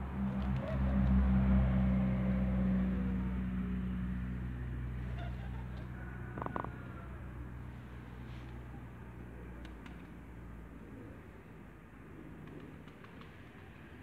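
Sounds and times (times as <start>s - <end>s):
engine drone: 0.0s - 12.8s.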